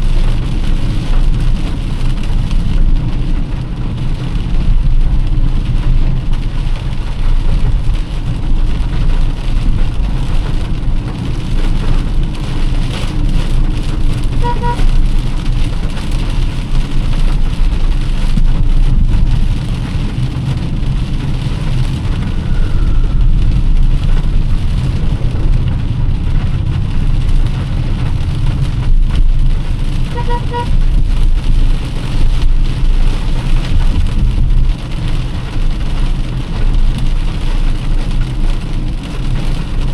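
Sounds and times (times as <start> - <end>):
heavy rain on a car: 0.0 - 39.9
road rumble: 0.0 - 39.9.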